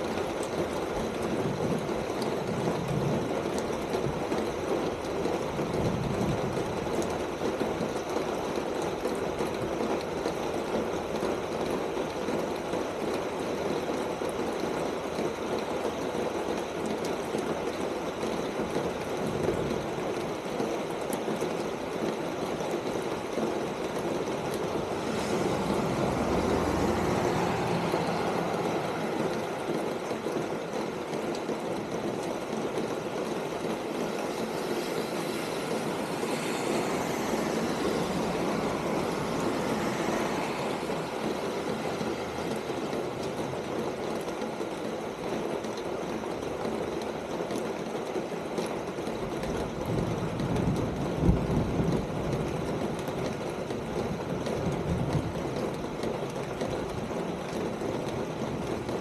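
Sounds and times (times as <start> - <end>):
rain on a metal roof: 0.0 - 59.0.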